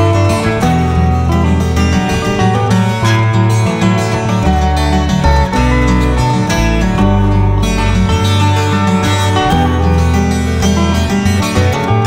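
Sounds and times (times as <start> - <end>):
instrumental music with plucked strings: 0.0 - 12.0.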